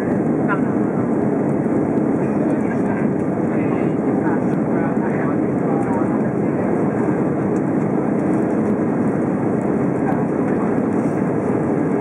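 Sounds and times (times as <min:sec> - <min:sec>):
airplane cabin noise: 0:00.0 - 0:12.0.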